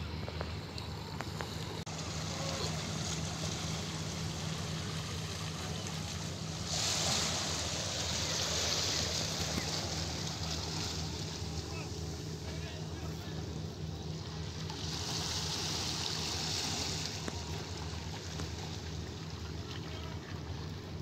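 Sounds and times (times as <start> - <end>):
low hum: 0.0 - 21.0
waves lapping over rocks: 1.6 - 21.0.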